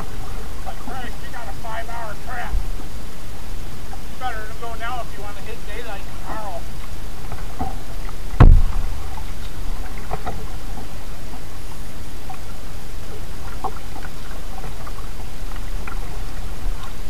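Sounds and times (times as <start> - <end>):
kayak paddle strokes: 0.0 - 17.0
steady low rumble: 0.0 - 17.0
water splashes and drips: 0.0 - 17.0.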